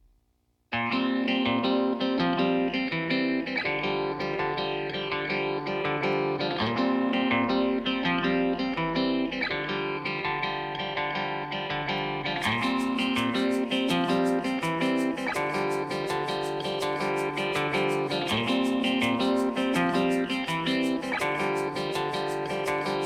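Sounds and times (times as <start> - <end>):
plucked guitar background music: 0.7 - 23.0.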